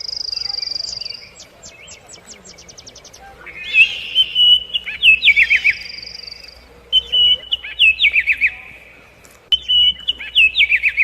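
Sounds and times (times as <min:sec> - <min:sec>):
songbird singing whistled phrase: 0:00.0 - 0:08.9, 0:09.5 - 0:11.0.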